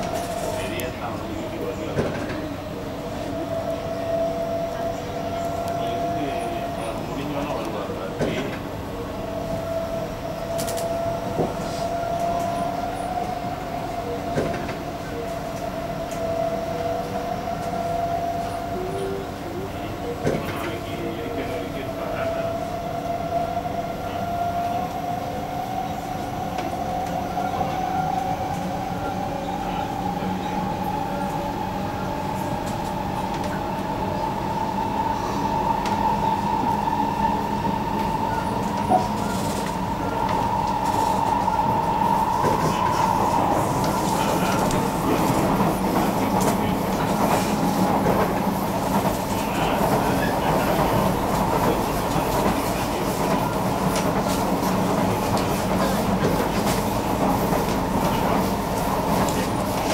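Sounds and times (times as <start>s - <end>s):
train traction drive whining: 0.0s - 59.9s
train wheels rumbling on track: 0.0s - 59.9s.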